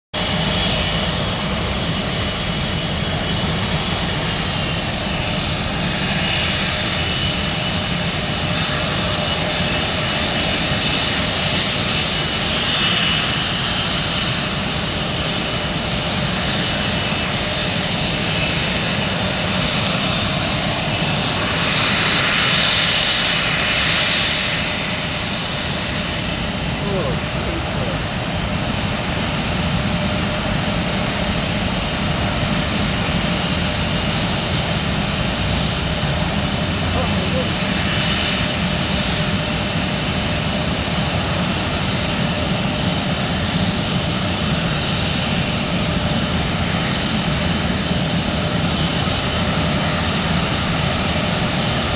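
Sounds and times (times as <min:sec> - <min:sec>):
jet engine whine: 0:00.2 - 0:51.9.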